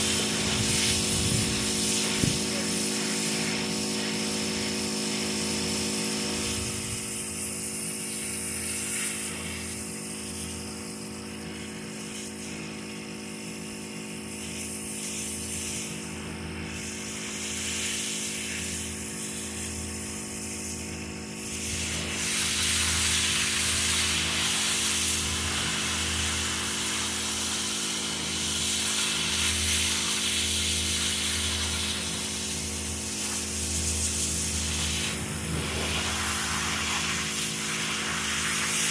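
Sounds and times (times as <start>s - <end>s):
water spray hissing: 0.0s - 12.9s, 14.4s - 38.9s
pressure washer motor humming: 0.0s - 38.9s.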